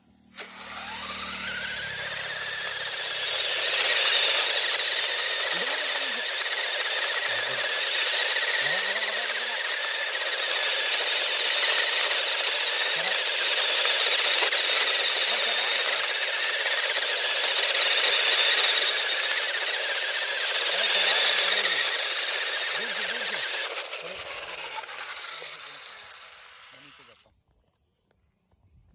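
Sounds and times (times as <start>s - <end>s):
small electric motor whirring: 0.3s - 27.3s.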